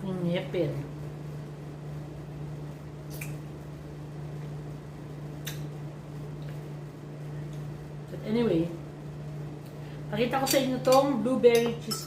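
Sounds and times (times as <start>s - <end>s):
low appliance hum: 0.0s - 12.0s.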